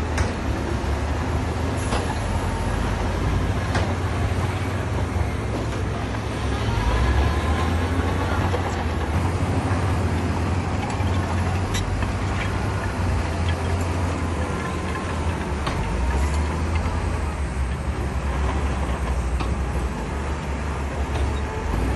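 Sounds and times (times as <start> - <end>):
diesel machinery engine rumble: 0.0 - 21.9.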